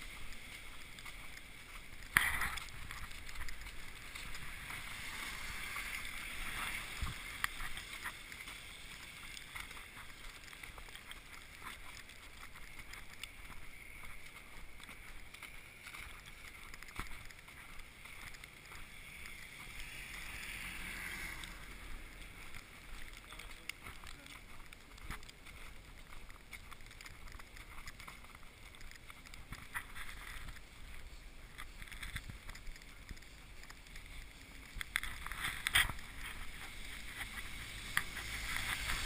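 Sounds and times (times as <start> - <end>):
footsteps in snow: 0.0 - 39.0
traffic on wet road: 0.0 - 39.0.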